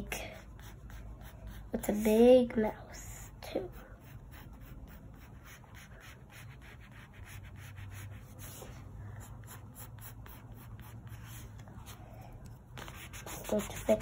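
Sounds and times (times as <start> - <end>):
pencil scratching on paper: 0.0 - 2.2, 3.4 - 12.0, 12.6 - 14.0.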